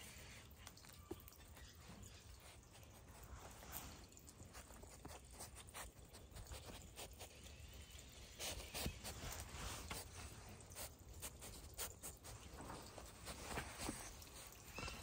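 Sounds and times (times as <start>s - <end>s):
animals rustling and scratching: 0.0s - 15.0s.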